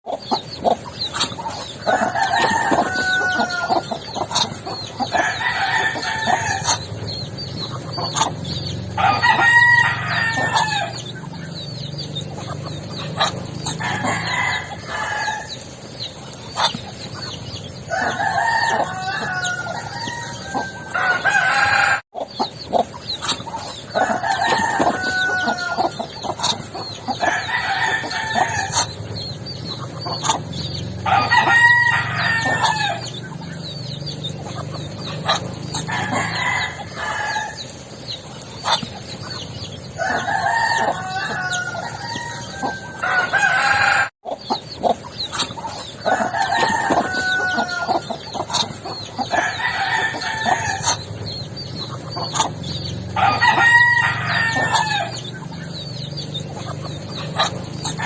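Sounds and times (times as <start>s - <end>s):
poultry clucks and chirps: 0.0s - 58.0s
poultry drawn-out calls: 0.1s - 58.0s.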